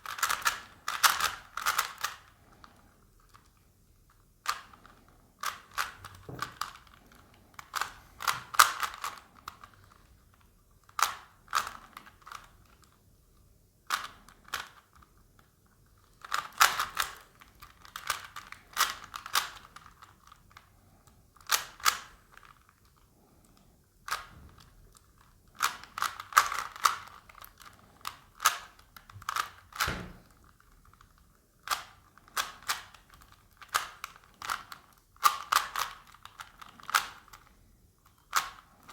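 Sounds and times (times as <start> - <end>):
puzzle cube plastic clicking: 0.0 - 2.3, 4.4 - 10.1, 10.8 - 13.0, 16.0 - 20.7, 21.4 - 22.8, 23.5 - 38.9.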